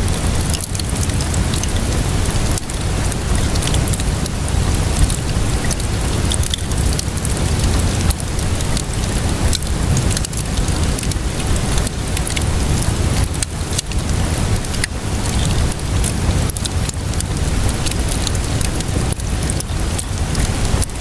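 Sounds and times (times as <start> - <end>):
fire crackling and popping: 0.0 - 21.0
steady rainfall: 0.0 - 21.0.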